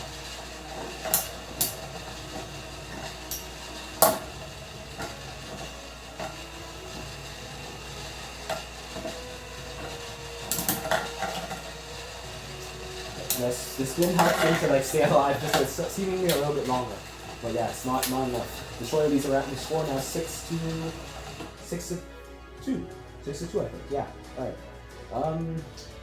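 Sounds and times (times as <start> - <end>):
metal spinning tops clashing: 0.0 - 22.0
spinning tops grinding: 0.0 - 26.0.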